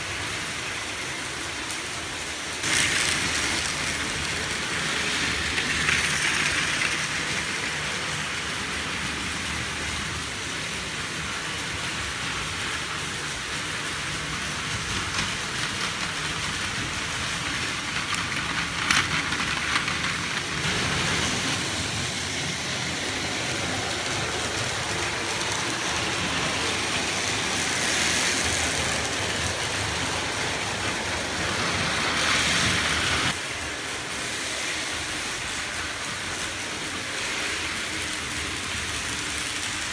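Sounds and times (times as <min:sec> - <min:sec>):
toy train motor whirring: 0:00.0 - 0:39.9
wheels rattling on track: 0:00.0 - 0:39.9.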